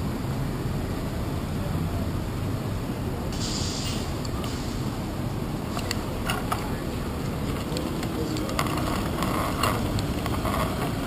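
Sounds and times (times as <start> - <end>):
bicycle road rumble: 0.0 - 11.0
wind: 0.0 - 11.0.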